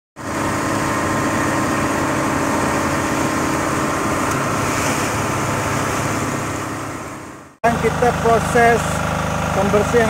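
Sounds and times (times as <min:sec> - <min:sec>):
drilling rig engine running: 0:00.2 - 0:10.0.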